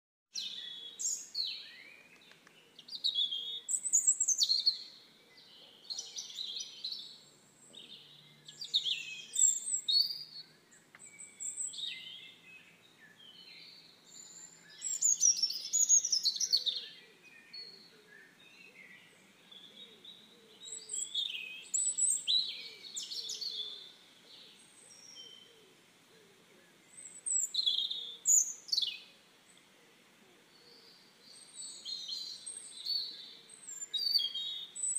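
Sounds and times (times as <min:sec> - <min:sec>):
songbirds chirping: 0:00.3 - 0:34.9.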